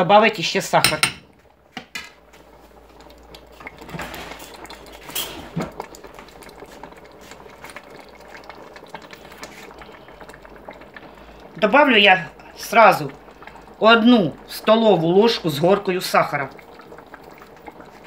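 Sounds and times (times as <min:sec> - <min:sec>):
thick sauce bubbling and popping: 0:00.8 - 0:18.0.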